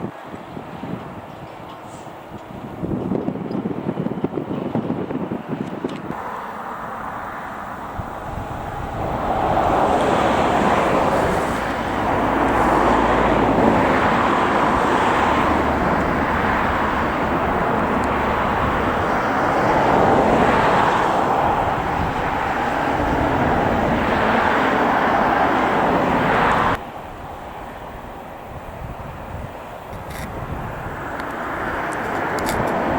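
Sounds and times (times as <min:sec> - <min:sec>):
jet airliner engines roaring: 0:00.0 - 0:32.9.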